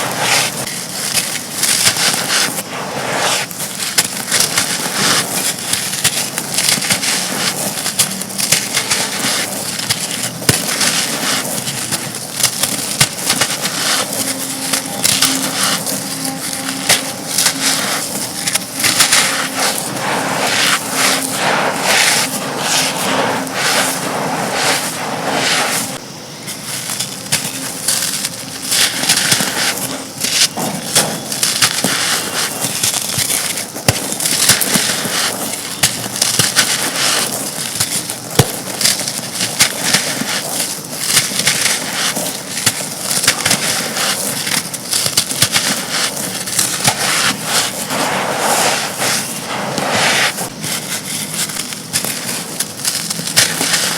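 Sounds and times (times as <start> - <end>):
brick chunks being crushed: 0.0 - 2.6, 3.4 - 20.0, 26.6 - 53.9.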